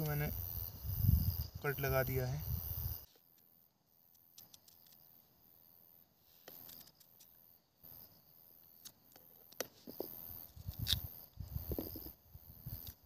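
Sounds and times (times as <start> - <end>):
forest insects chirring: 0.0 - 13.0.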